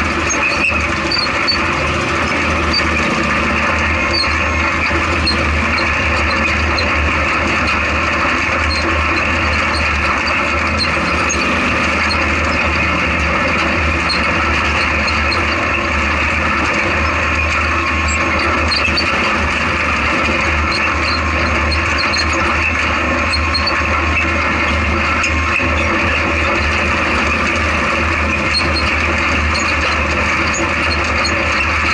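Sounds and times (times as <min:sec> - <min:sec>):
chassis rattles and ticks: 0:00.0 - 0:31.9
truck engine running: 0:00.0 - 0:31.9.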